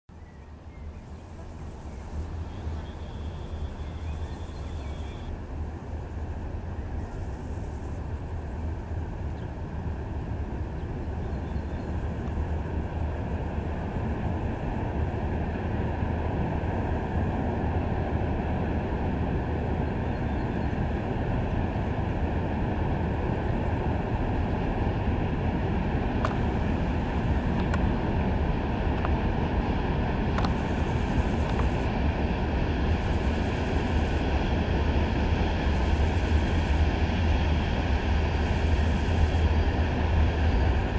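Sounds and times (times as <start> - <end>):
freight train rumble: 0.1 - 40.9.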